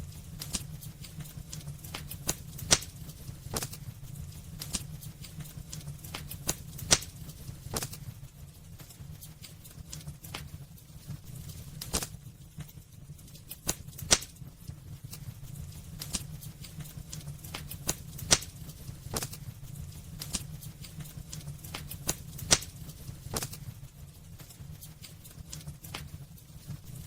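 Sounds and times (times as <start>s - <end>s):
low fire rumble: 0.0s - 27.0s
wood fire crackling and popping: 0.0s - 27.0s.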